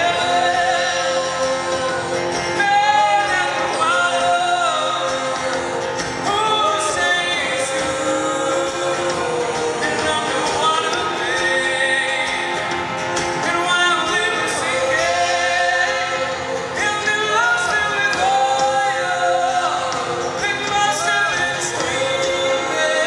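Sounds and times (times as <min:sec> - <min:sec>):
live band music: 0:00.0 - 0:23.0
voices singing long sliding notes: 0:00.0 - 0:23.0.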